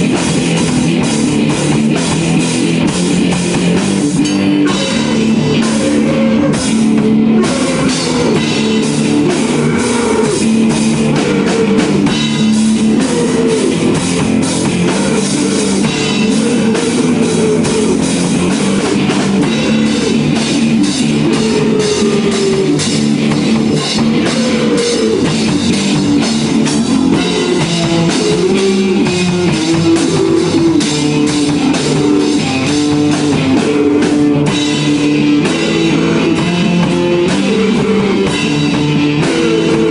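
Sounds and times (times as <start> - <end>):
drum kit playing: 0.0 - 39.9
electric guitar riffs: 0.0 - 39.9.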